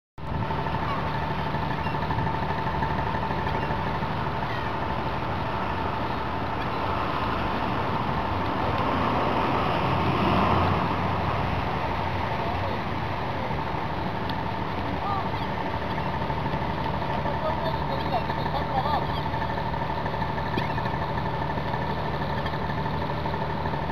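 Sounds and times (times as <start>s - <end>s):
engine humming: 0.2s - 23.9s
seagulls calling: 0.3s - 8.8s, 11.5s - 23.8s.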